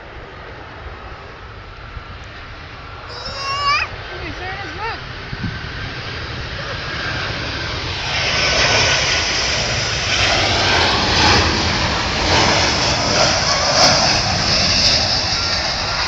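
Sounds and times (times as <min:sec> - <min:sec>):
airplane engine roar: 0:00.0 - 0:16.0.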